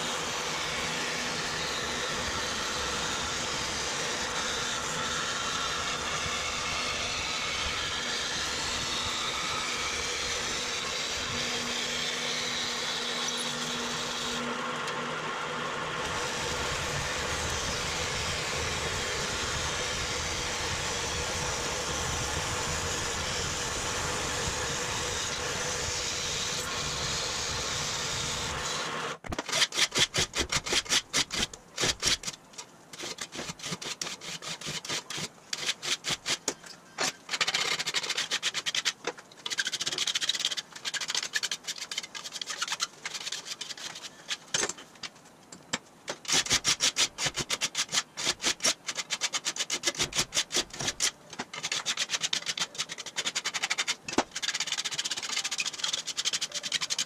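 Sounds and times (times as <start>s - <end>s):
bandsaw cutting metal: 0.0s - 44.7s, 46.1s - 57.0s.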